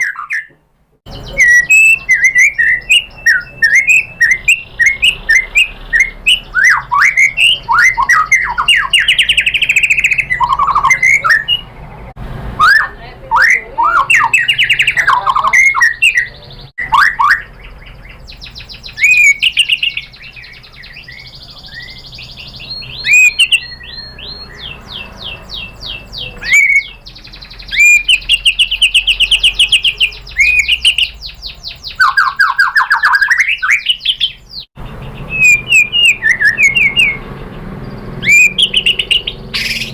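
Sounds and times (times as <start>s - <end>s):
bird singing whistles and trills: 0.0s - 0.5s, 1.1s - 12.0s, 12.6s - 39.9s.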